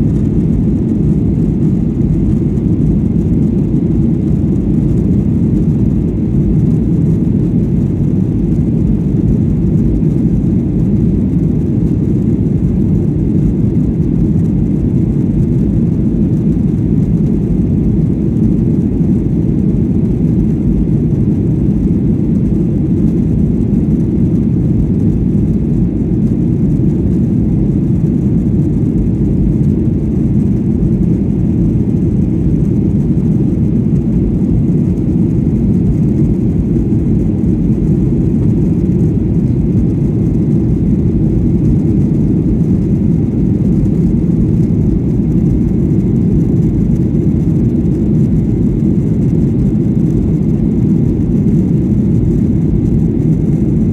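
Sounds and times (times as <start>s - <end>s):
airplane cabin engine noise: 0.0s - 53.9s.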